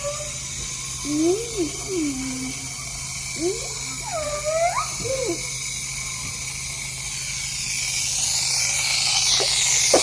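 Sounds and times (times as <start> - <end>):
nebulizer machine hissing: 0.0 - 10.0.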